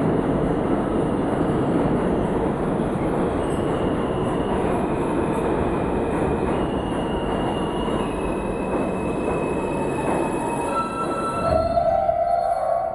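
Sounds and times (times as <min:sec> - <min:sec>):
subway train wheels rumbling: 0:00.0 - 0:12.9.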